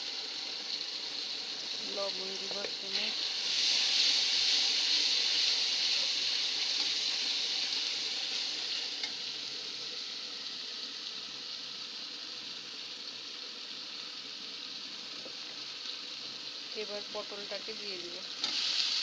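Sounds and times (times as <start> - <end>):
onion paste sizzling in oil: 0.0 - 19.0.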